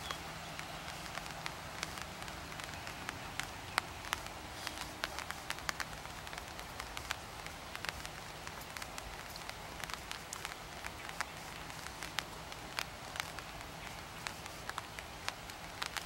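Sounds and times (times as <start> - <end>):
rain hissing on water and leaves: 0.0 - 16.0
raindrops ticking close by: 0.0 - 16.0.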